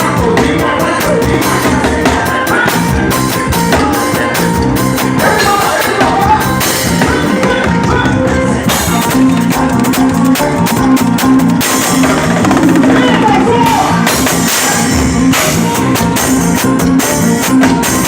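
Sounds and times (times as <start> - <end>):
people singing: 0.0 - 16.5
driving drums and percussion: 0.0 - 18.0.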